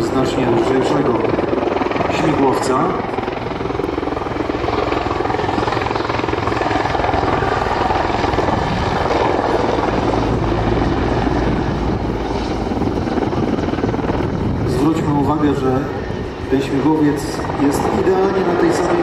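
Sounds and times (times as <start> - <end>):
helicopter rotor beat: 0.0 - 19.0.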